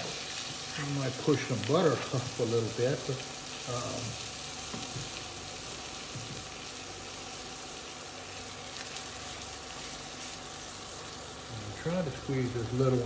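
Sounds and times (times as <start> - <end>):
fish sizzling in a skillet: 0.0 - 13.0.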